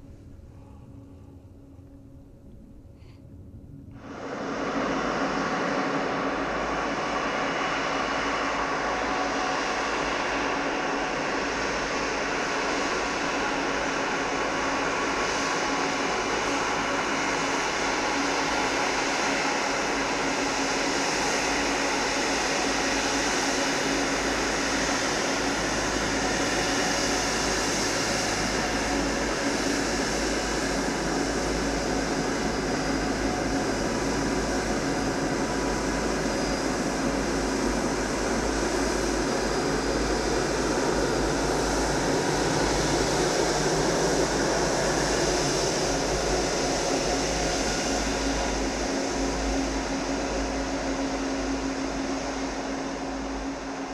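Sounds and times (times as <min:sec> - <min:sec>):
jet engines at taxi power: 0:00.0 - 0:53.9.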